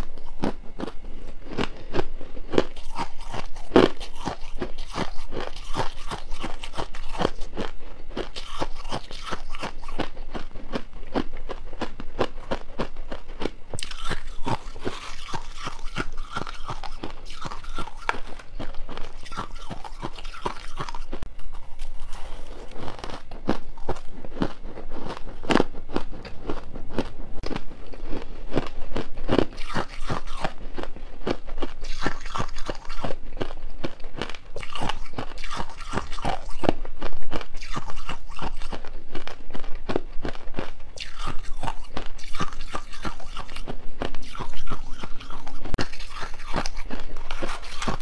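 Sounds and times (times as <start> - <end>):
person crunching ice: 0.0 - 48.0.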